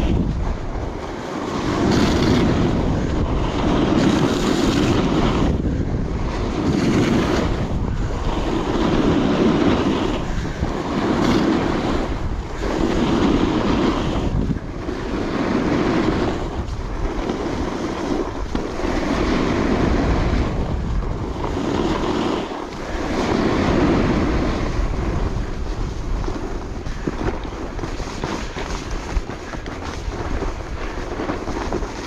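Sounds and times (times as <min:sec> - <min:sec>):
snowboard edge hissing on snow: 0:00.0 - 0:32.0
wind on microphone: 0:00.0 - 0:32.0.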